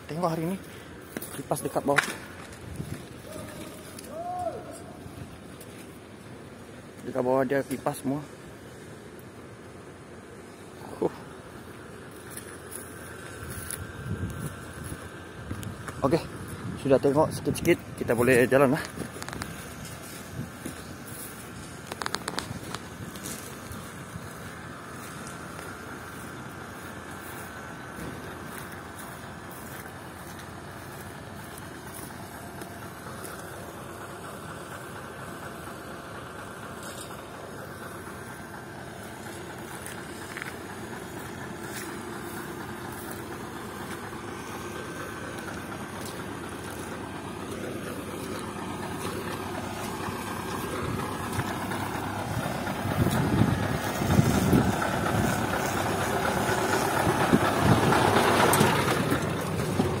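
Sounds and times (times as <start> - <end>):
diesel truck engine idling: 0.0 - 60.0
heavy low rumbles: 10.5 - 60.0.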